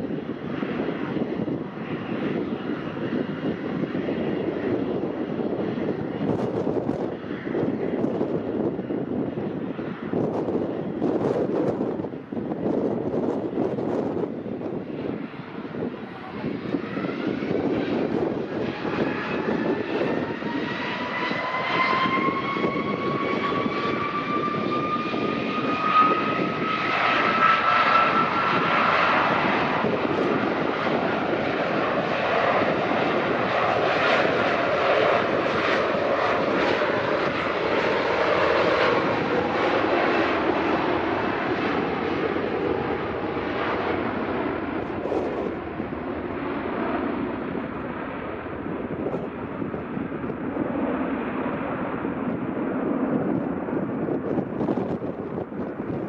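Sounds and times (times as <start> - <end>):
jet engines whining and roaring: 0.0 - 56.0.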